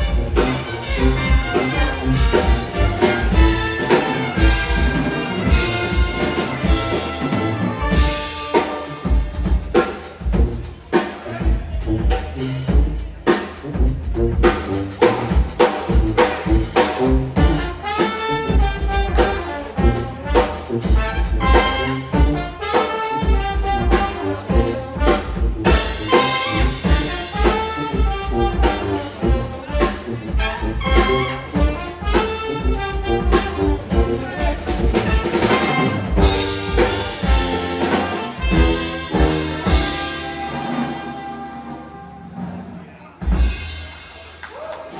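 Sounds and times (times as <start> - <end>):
trumpets and trombones: 0.0 - 43.7
drum kit beat: 0.0 - 44.9.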